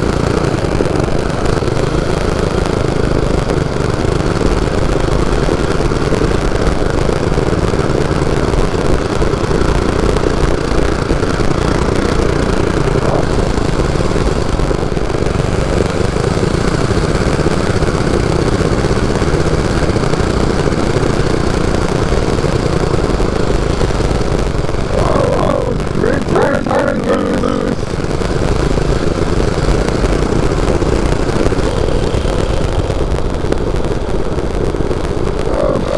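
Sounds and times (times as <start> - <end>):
mini bike engine running: 0.0 - 35.9.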